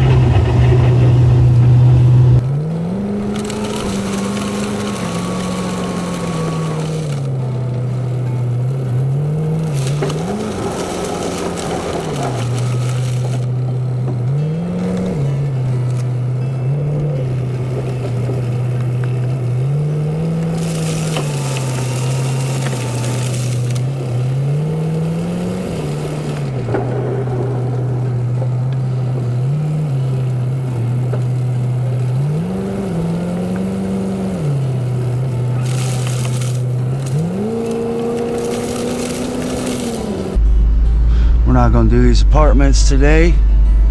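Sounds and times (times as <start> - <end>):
plow scraping through slush: 0.0 - 40.4
truck engine revving: 0.0 - 43.9.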